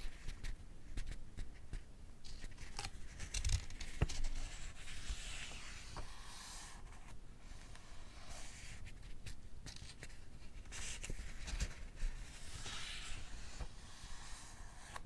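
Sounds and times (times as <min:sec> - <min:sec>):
book pages turning: 0:02.3 - 0:15.0.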